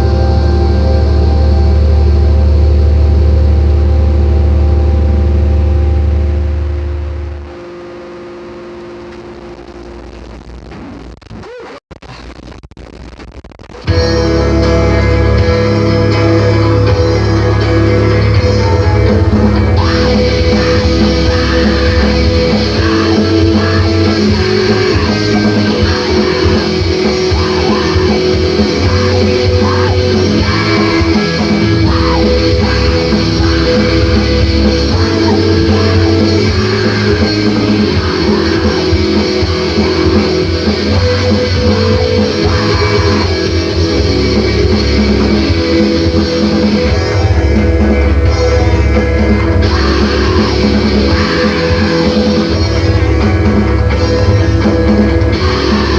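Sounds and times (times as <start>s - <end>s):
screamo band with electric guitars: 0.0s - 55.9s.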